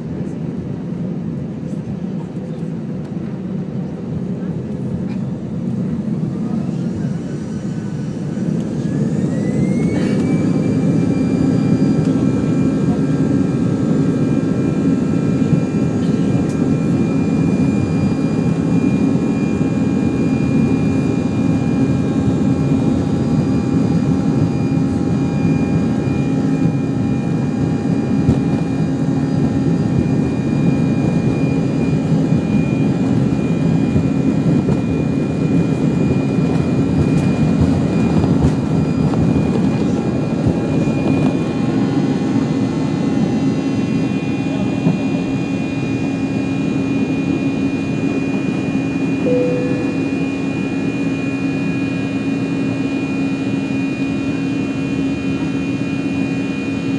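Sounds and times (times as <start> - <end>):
jet engine whine: 0.0 - 56.9.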